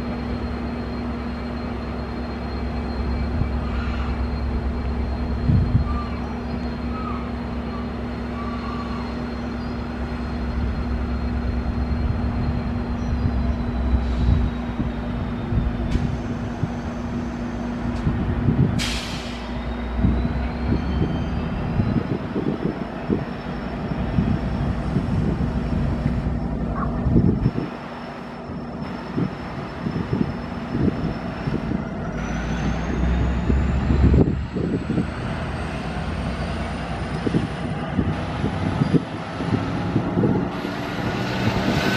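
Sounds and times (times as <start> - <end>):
diesel locomotive idling: 0.0 - 41.2.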